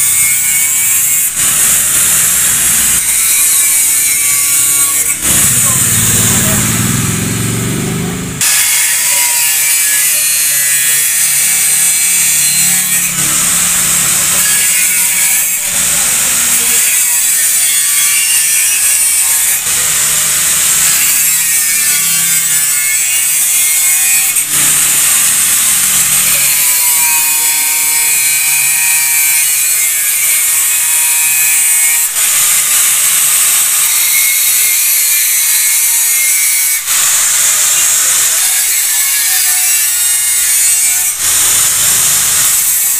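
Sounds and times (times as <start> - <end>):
angle grinder grinding metal: 0.0 - 42.9.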